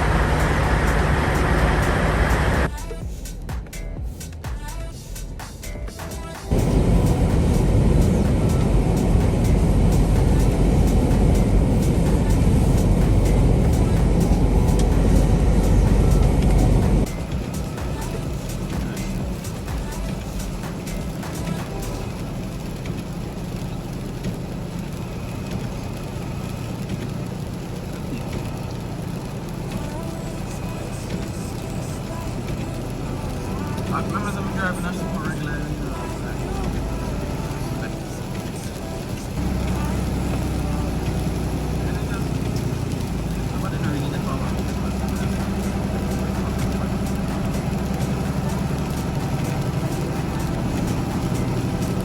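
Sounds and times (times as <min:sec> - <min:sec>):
tyres hissing on wet road: 0:00.0 - 0:03.5, 0:04.1 - 0:52.0
truck engine rumbling: 0:00.0 - 0:52.0.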